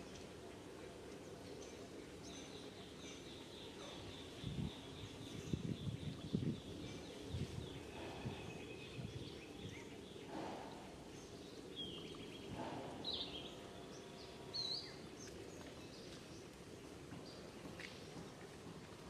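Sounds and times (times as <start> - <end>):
low outdoor background noise: 0.0 - 19.0.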